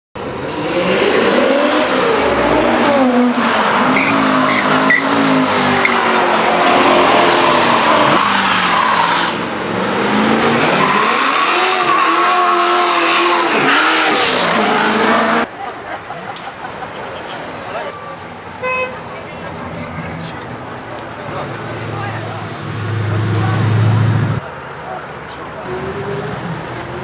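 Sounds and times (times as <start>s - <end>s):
car engines revving: 0.2s - 27.0s.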